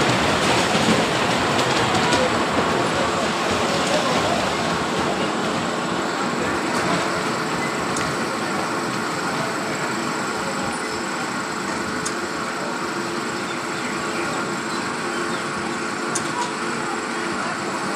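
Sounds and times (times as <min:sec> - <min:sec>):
amusement ride rattling: 0:00.0 - 0:17.9.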